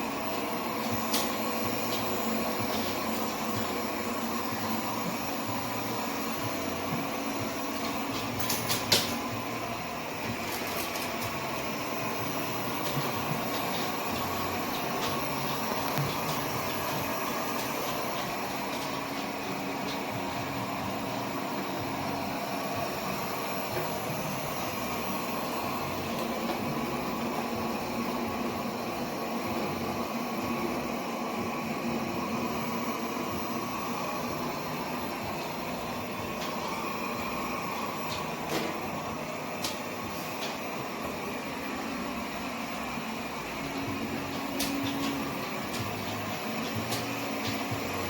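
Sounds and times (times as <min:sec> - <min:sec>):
robot vacuum running: 0:00.0 - 0:48.0.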